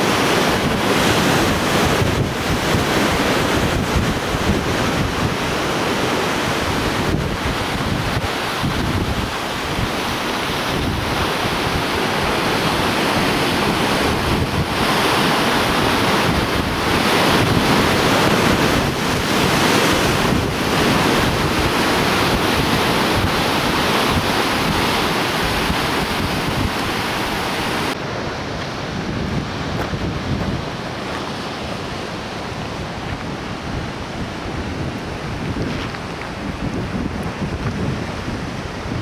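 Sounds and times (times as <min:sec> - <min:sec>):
surf breaking on rocks: 0:00.0 - 0:39.0
wind buffeting microphone: 0:00.0 - 0:39.0.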